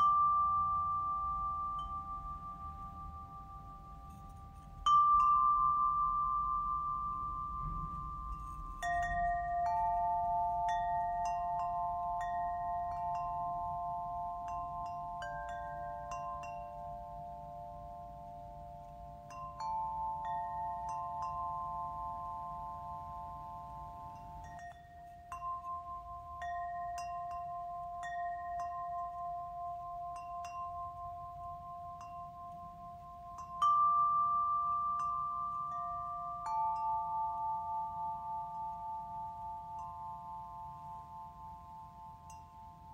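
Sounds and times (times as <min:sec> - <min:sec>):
light high tinkles: 0:00.0 - 0:42.9
small bells chiming: 0:00.0 - 0:42.9.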